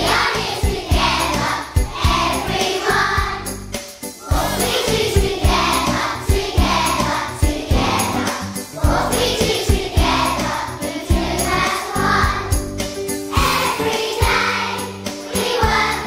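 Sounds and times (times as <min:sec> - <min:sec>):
children singing in unison: 0:00.0 - 0:03.5, 0:04.2 - 0:12.5, 0:13.3 - 0:16.0
instrumental accompaniment with beat: 0:00.0 - 0:16.0.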